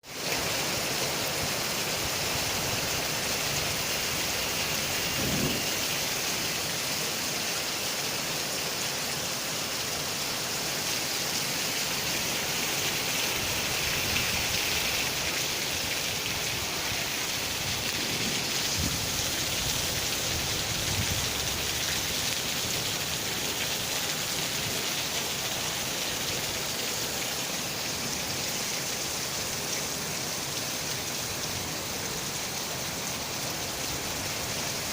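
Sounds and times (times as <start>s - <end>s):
steady rain hissing: 0.0s - 34.9s.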